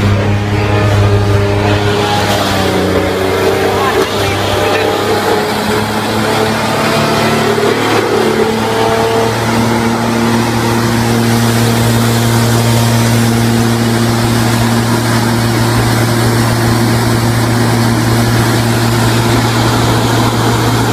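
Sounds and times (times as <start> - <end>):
sawdust blowing out: 0.0 - 20.9
sawdust crusher humming: 0.0 - 20.9.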